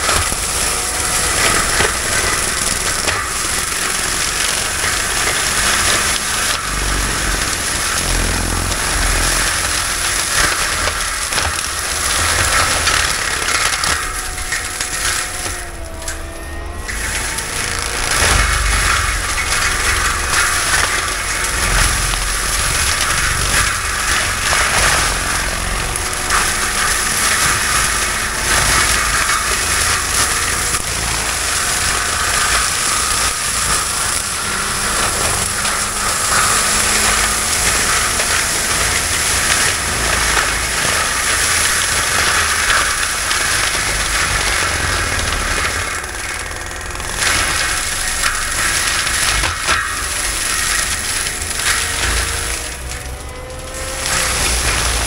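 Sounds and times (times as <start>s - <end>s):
heavy machinery rushing noise: 0.0s - 55.0s
low engine rumble: 0.0s - 55.0s.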